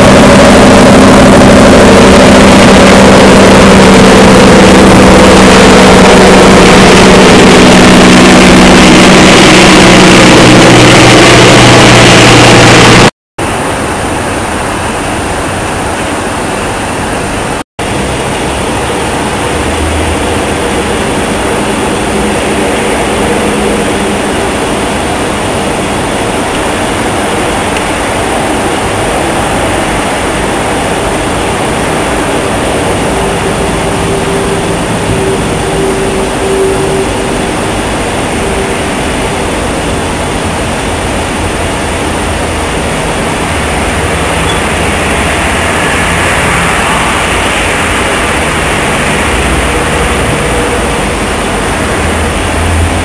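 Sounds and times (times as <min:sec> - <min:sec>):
loud rushing noise: 0:00.0 - 0:13.5, 0:17.8 - 0:53.0
thin high-pitched whine: 0:00.0 - 0:53.0.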